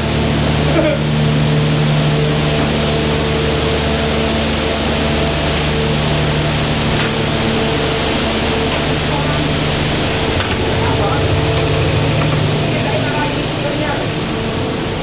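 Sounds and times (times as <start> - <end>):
loud machine hum: 0.0 - 15.0.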